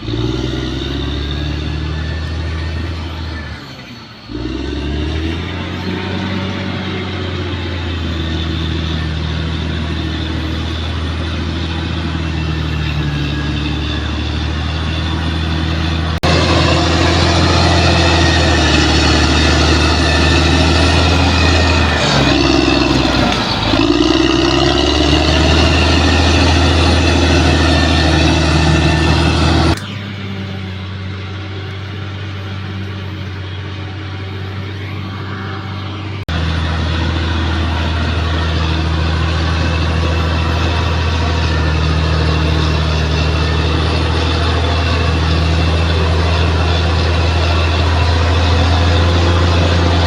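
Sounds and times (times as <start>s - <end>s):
bulldozer diesel engine running: 0.0s - 50.0s.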